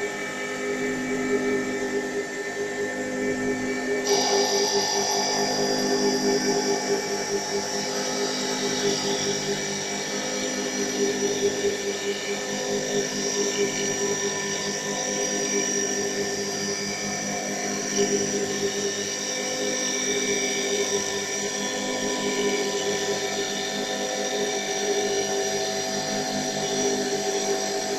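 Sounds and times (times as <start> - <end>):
wood lathe motor whine: 0.0 - 27.9.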